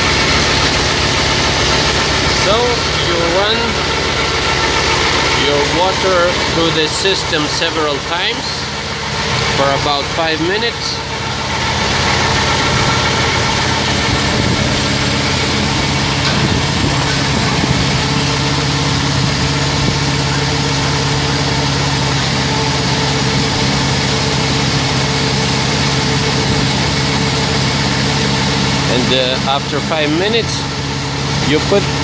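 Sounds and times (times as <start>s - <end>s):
pump humming: 0.0s - 32.0s.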